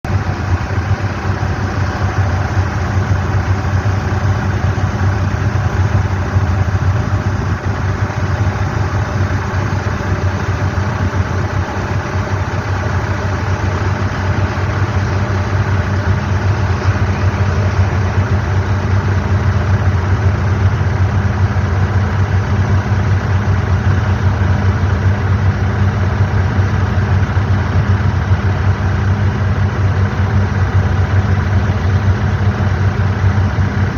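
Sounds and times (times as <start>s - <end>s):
jet engines droning: 0.1s - 33.9s.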